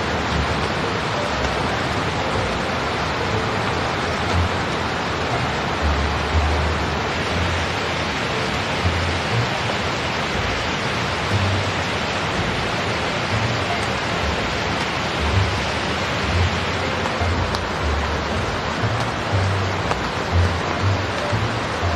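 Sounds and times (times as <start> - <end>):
heavy rain on a tent: 0.0 - 21.9.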